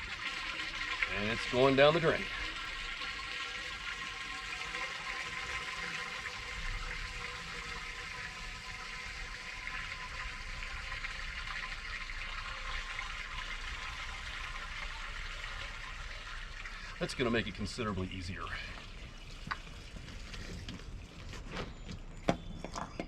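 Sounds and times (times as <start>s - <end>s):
rainwater rushing down drain: 0.0s - 21.4s.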